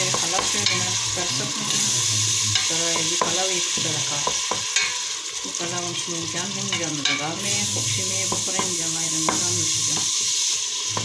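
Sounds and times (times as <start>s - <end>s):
minced meat sizzling: 0.0s - 11.0s.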